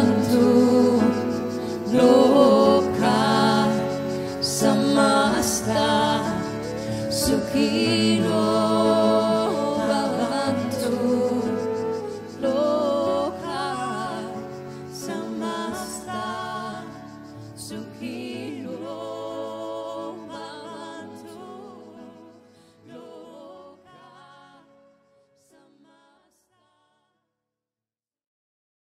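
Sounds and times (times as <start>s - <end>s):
music with singing voices: 0.0s - 26.9s.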